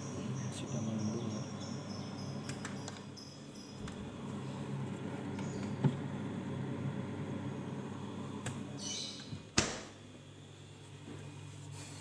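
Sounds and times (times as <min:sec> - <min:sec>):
refrigerator humming: 0:00.0 - 0:12.0.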